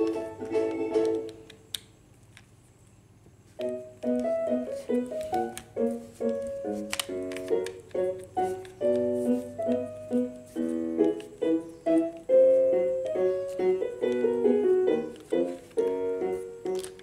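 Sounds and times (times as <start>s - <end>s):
keyboard tune: 0.0s - 1.3s, 3.6s - 17.0s.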